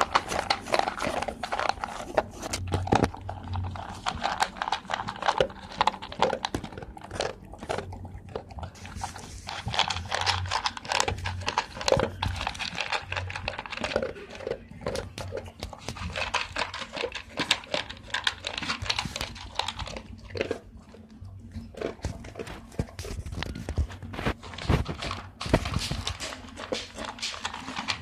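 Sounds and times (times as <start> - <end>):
dog crunching food: 0.0 - 28.0.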